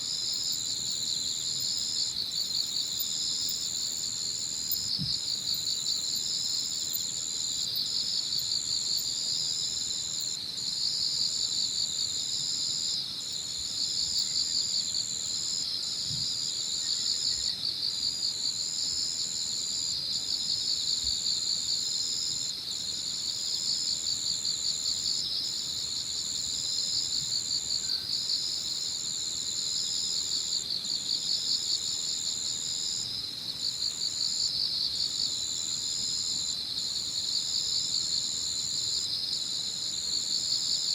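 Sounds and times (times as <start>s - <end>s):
insects pulsing chirring: 0.0s - 40.9s.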